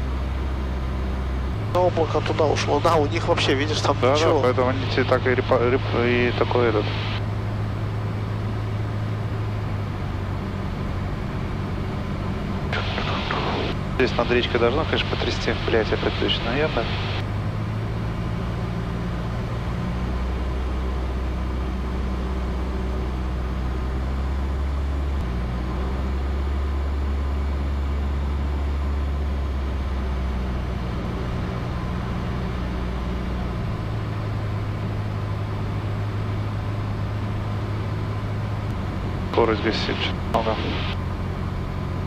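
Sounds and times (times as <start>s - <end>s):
propeller plane engine droning: 0.0s - 42.0s.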